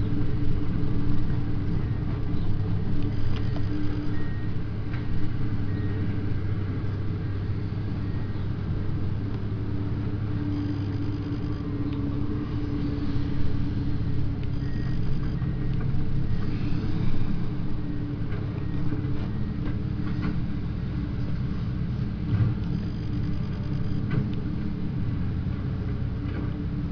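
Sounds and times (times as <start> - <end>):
faint high-pitched beeps: 0.0 - 21.7, 22.5 - 24.3
excavator diesel engine droning: 0.0 - 26.9.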